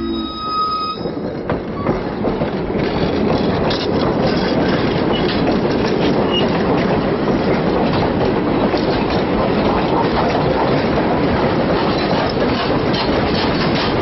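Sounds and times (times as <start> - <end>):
train coaches rumbling past: 0.0 - 14.0
wheels clicking over rail joints: 1.0 - 14.0.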